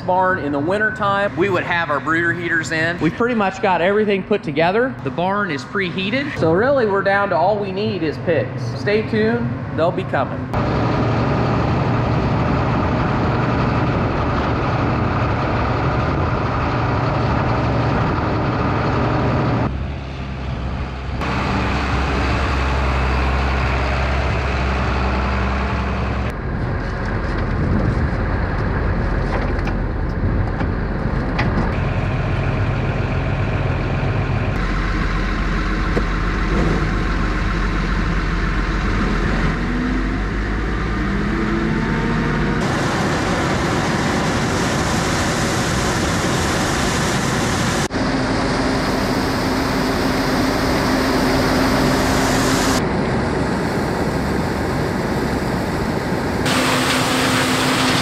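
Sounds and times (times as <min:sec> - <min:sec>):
heavy farm machinery engines: 0:00.0 - 0:58.0.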